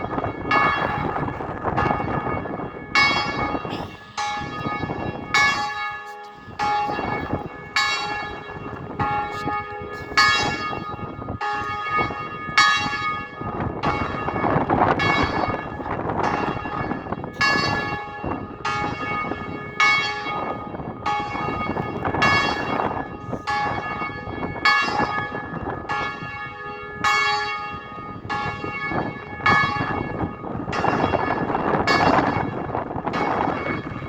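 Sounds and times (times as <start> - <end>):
church bells ringing: 0.0 - 34.0
wind noise: 0.0 - 34.0.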